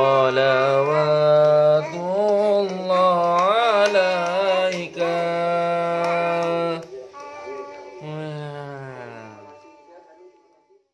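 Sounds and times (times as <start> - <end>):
person singing devotional song: 0.0 - 10.0.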